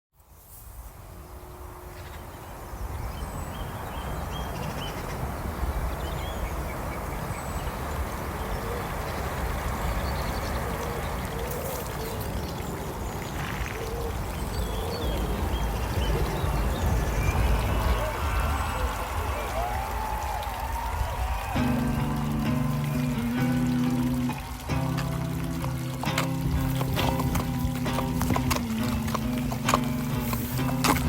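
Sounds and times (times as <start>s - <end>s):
wind rumbling on microphone: 0.3s - 31.0s.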